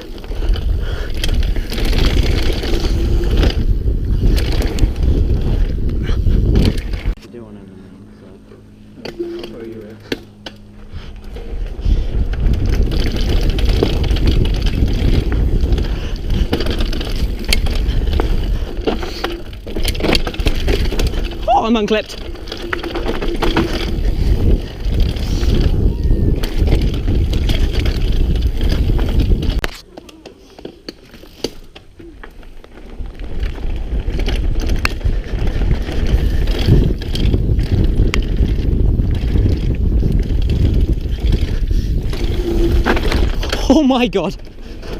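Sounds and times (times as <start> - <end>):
bike rattling and knocking: 0.0 - 7.2, 8.6 - 44.9
wind buffeting microphone: 0.0 - 7.2, 10.0 - 29.6, 33.0 - 44.9
bike tyres rumbling on trail: 0.0 - 44.9.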